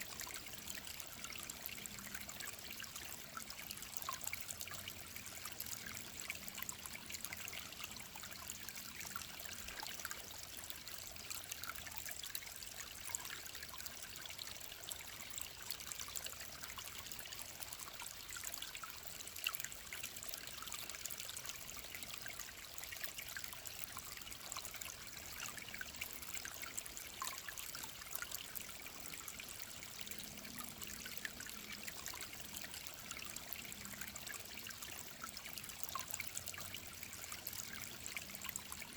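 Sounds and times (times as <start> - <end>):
stream trickling: 0.0 - 38.9.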